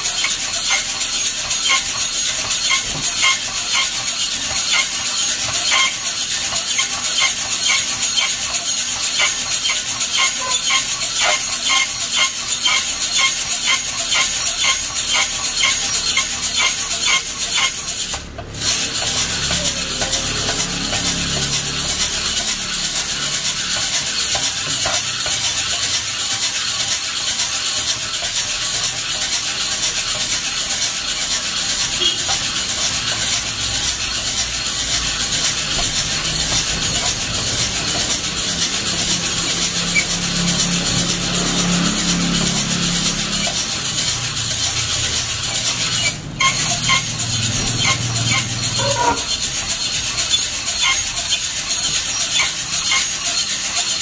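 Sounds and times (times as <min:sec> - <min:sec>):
coffee beans rattling in roaster drum: 0:00.0 - 0:54.0.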